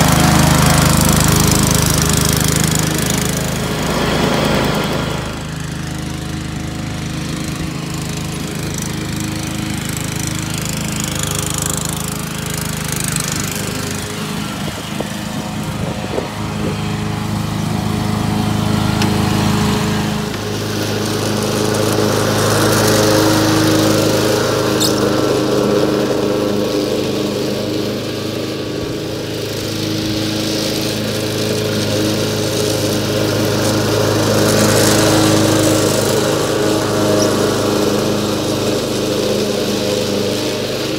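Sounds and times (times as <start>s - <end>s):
lawn mower engines running: 0.0s - 40.9s.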